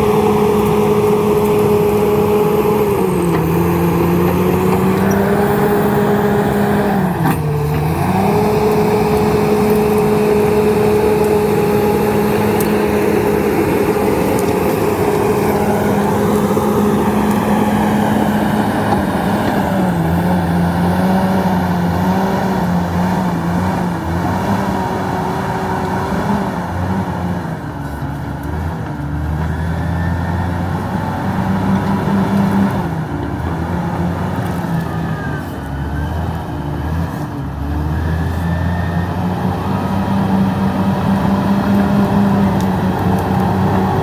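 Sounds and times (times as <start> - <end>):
bulldozer diesel engine: 0.0 - 44.0.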